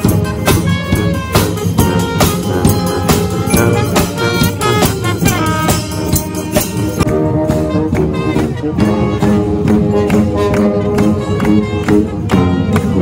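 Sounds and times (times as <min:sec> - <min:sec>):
marching band brass: 0:00.0 - 0:13.0
marching drums and cymbals: 0:00.0 - 0:13.0.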